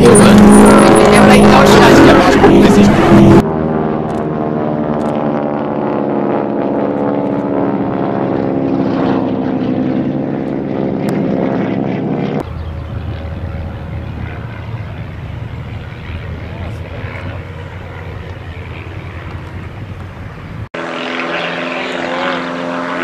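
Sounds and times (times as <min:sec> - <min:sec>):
distant propeller aircraft: 0:00.0 - 0:23.0
propeller plane engine droning: 0:00.0 - 0:23.0.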